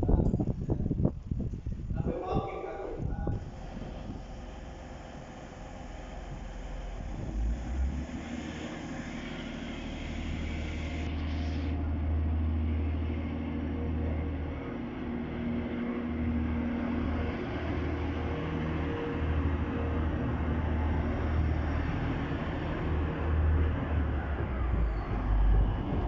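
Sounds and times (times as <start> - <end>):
diesel train engines droning: 2.0 - 26.0.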